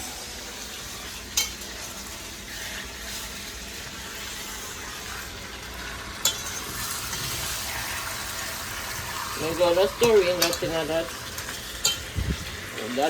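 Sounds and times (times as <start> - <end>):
chicken sizzling in a pot: 0.0 - 13.0.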